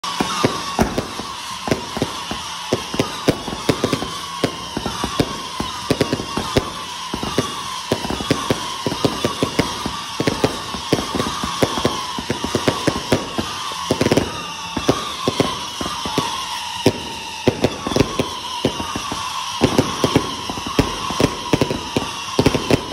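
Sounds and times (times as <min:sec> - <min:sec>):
falling whistle: 0:00.0 - 0:22.9
fireworks cracking and banging: 0:00.0 - 0:22.9.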